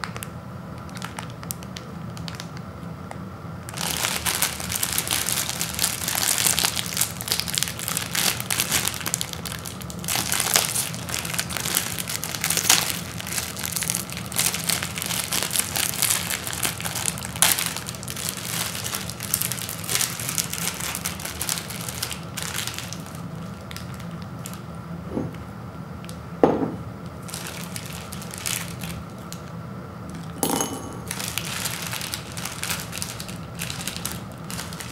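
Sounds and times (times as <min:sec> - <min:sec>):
plastic packet crinkling: 0:00.0 - 0:02.6, 0:03.7 - 0:24.6, 0:27.2 - 0:29.5, 0:30.1 - 0:34.9.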